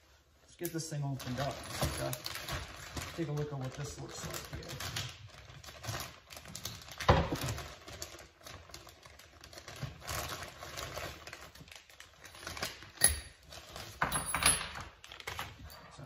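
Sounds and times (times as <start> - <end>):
plastic packaging crinkling: 1.1 - 14.0.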